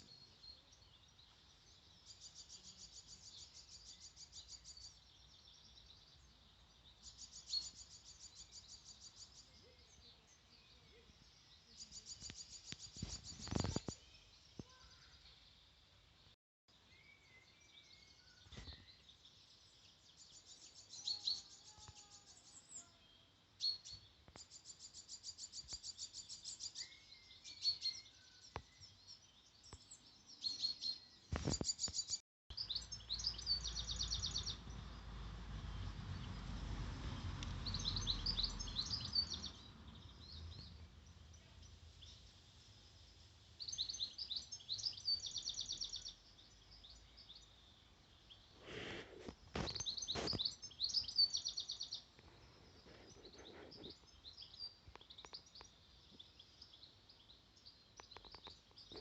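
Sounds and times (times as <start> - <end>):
songbirds trilling: 0.0 - 15.8, 17.1 - 35.0, 37.1 - 59.0.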